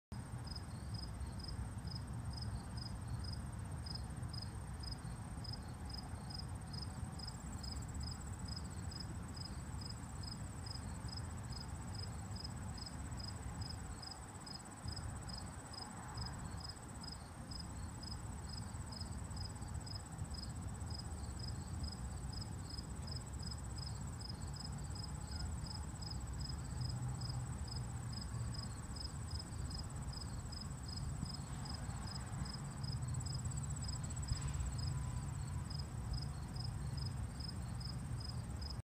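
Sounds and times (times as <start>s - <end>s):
cricket chirping: 0.4s - 38.8s
high-pitched cricket trill: 0.4s - 38.8s.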